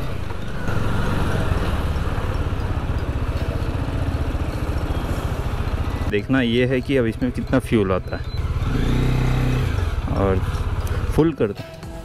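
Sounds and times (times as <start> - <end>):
motorcycle engine puttering: 0.0 - 11.3.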